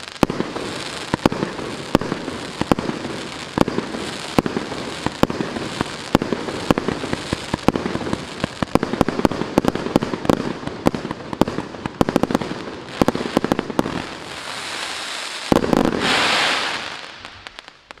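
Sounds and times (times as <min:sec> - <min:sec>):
firework bangs: 0:00.0 - 0:18.0
firework crackling: 0:00.0 - 0:18.0.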